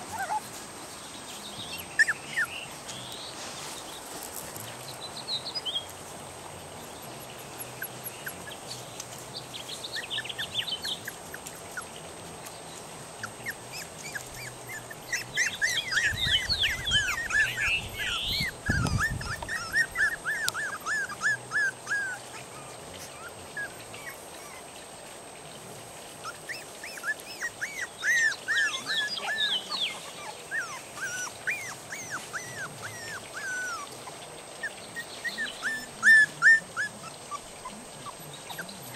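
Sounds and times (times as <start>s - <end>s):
puppies whining and squealing: 0.0s - 0.6s, 1.6s - 3.5s, 6.7s - 12.4s, 13.1s - 24.9s, 26.1s - 38.9s.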